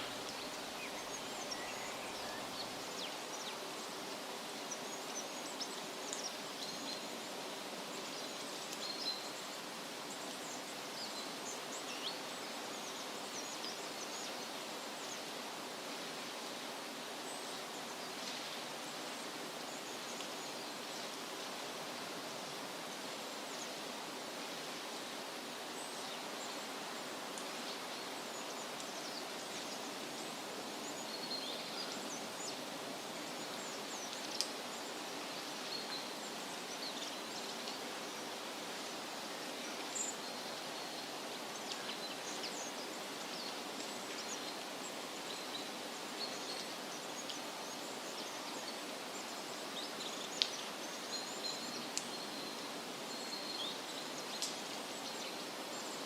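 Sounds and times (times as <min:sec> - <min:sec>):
wind rustling leafy trees: 0:00.0 - 0:56.0.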